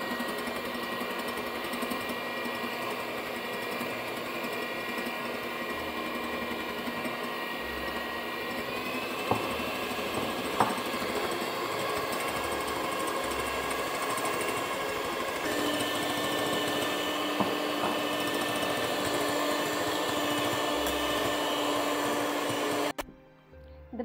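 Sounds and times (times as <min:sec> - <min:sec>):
electric hand mixer running: 0:00.0 - 0:23.0.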